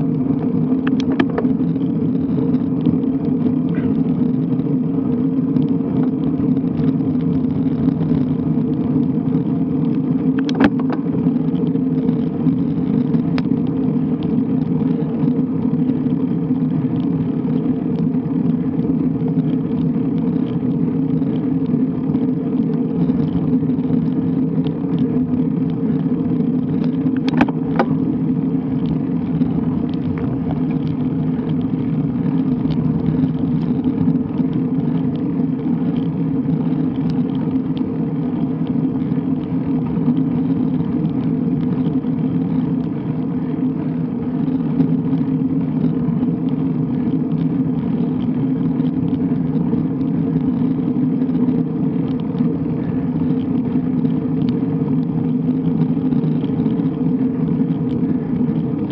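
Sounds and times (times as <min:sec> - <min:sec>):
road rumble: 0:00.0 - 0:58.9
wind: 0:00.0 - 0:58.9.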